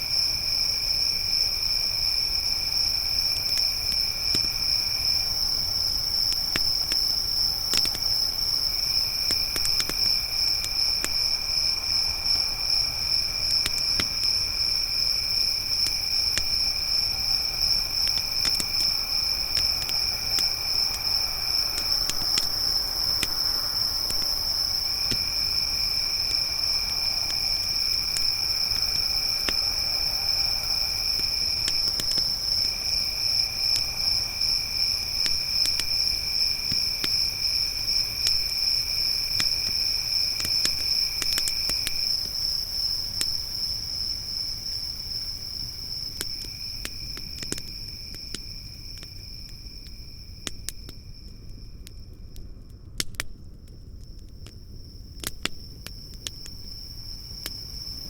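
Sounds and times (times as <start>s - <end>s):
lower insect trill: 0.0s - 52.3s, 54.4s - 58.0s
crickets trilling: 0.0s - 58.0s
campfire crackling with pops: 2.6s - 58.0s.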